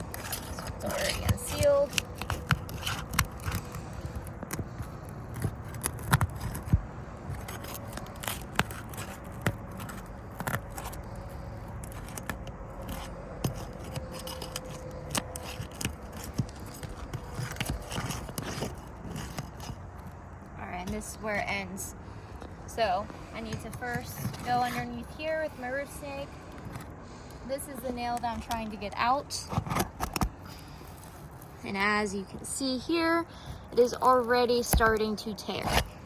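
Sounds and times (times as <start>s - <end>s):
metal tool scraping under shingles: 0.0s - 21.9s, 22.7s - 32.1s, 33.4s - 36.0s.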